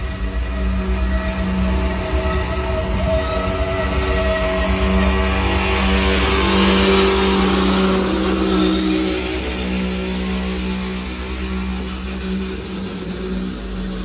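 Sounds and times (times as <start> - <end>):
low droning train hum: 0.0 - 14.0
train wheels on rails: 0.0 - 14.0.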